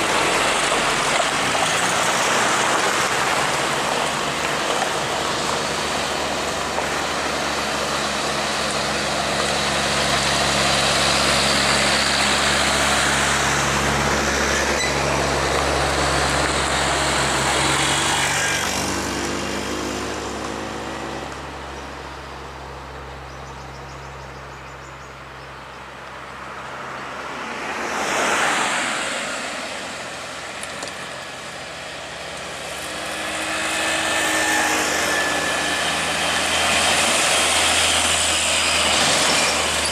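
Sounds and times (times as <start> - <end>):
vehicle passing quickly: 0.0 - 22.2, 26.3 - 39.9
truck diesel engine drone: 0.0 - 39.9.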